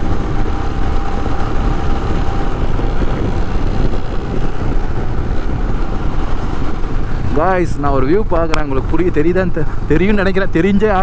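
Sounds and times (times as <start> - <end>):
motorcycle engine: 0.0 - 11.0
road noise: 0.0 - 11.0
wind rushing over microphone: 0.0 - 11.0.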